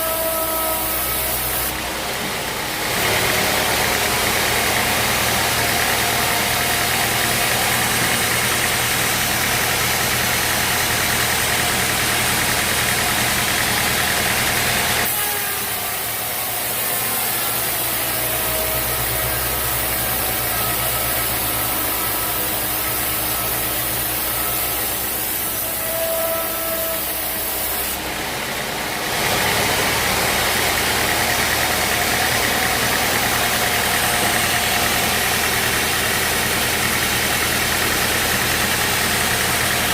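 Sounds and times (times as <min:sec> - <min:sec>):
deeper engine hum: 0:00.0 - 0:39.9
sawmill engine running: 0:00.0 - 0:39.9.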